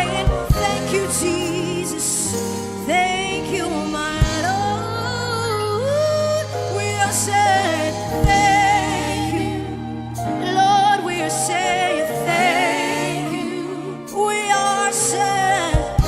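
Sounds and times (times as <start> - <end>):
bass: 0.0 - 16.0
gospel singing with vibrato: 0.0 - 16.0
keyboard: 0.0 - 16.0.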